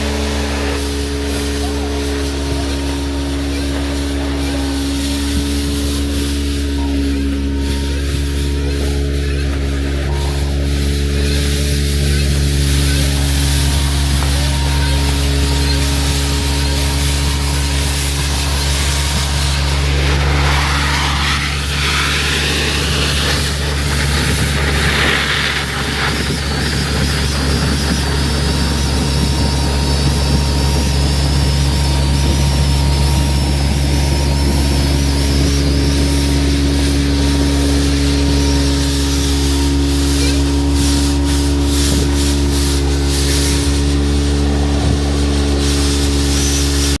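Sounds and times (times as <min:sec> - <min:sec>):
engine drone: 0:00.0 - 0:47.0
rushing hiss of suction: 0:00.0 - 0:47.0.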